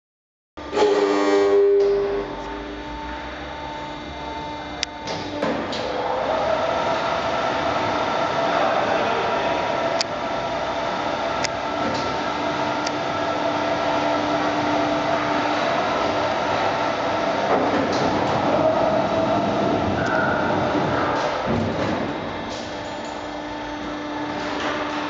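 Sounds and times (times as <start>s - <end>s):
machine hum with held tones: 0.6s - 25.0s.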